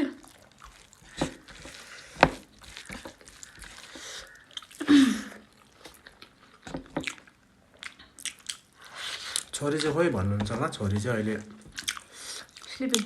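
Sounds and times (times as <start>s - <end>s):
person chewing: 0.1s - 10.0s, 11.0s - 13.0s.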